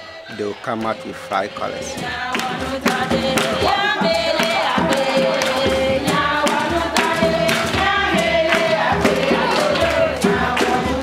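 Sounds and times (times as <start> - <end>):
children and women singing: 0.0 - 11.0
hand claps: 0.7 - 11.0.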